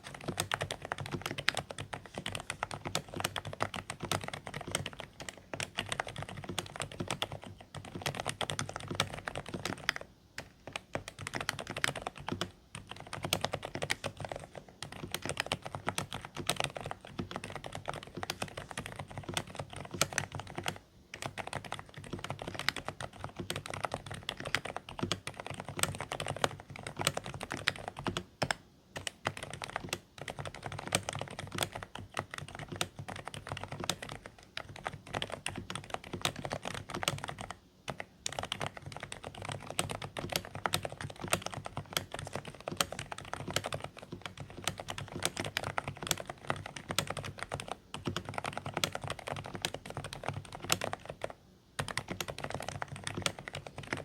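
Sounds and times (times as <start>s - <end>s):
muffled keyboard typing: 0.0s - 54.0s.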